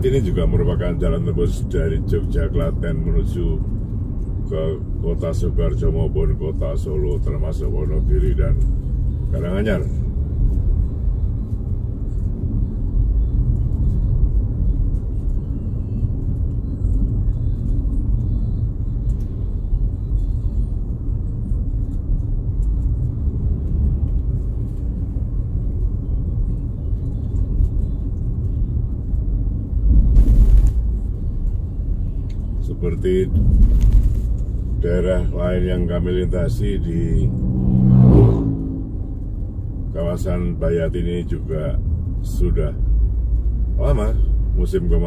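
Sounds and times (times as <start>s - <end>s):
car driving on road: 0.0s - 45.0s.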